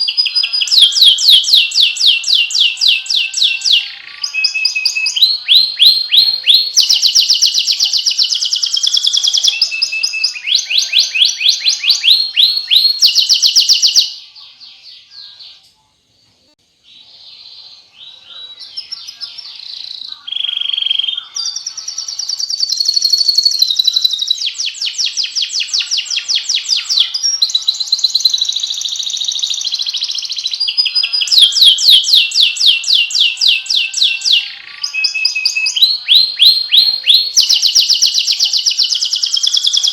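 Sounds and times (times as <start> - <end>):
canary singing fast trills: 0.0 - 15.7, 16.8 - 39.9.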